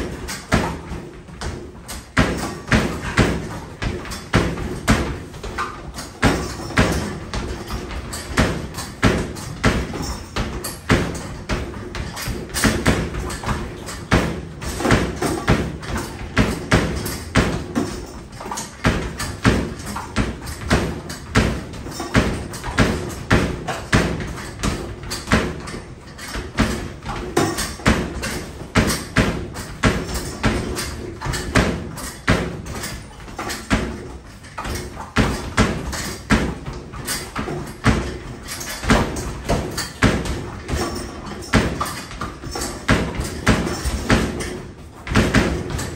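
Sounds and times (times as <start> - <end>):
basketballs thudding off backboard: 0.0 - 45.9.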